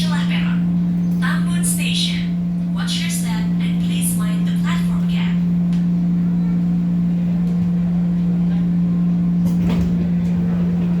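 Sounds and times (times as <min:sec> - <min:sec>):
electric train car hum: 0:00.0 - 0:11.0.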